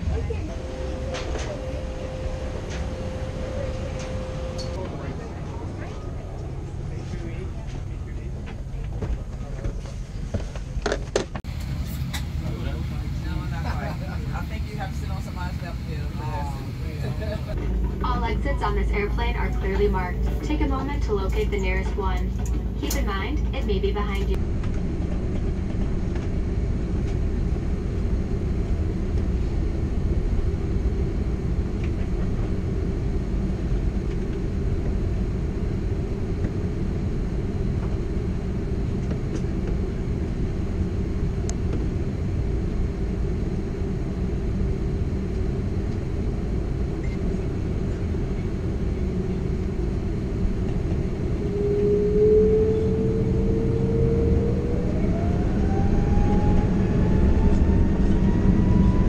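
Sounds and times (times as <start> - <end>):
jet engine whine rising in pitch: 0.0 - 8.8, 11.5 - 59.0
jet cabin low rumble: 0.0 - 59.0.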